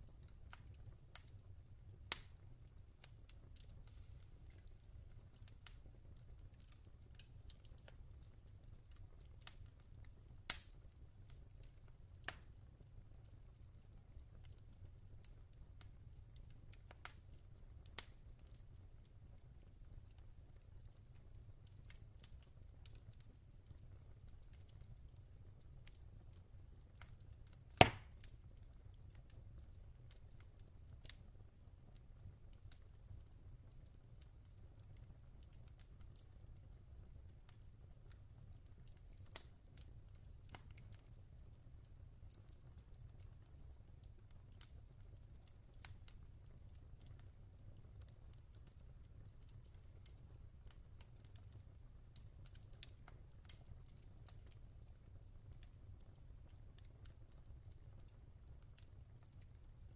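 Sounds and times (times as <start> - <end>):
fire popping: 0.0 - 59.9
log fire crackling: 0.0 - 59.9.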